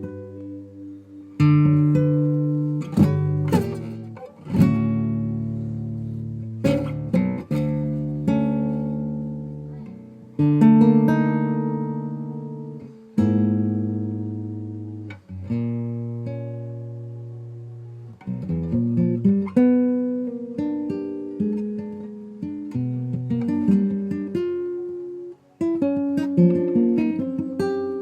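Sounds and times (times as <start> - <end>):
acoustic guitar chords strummed: 0.0 - 28.0.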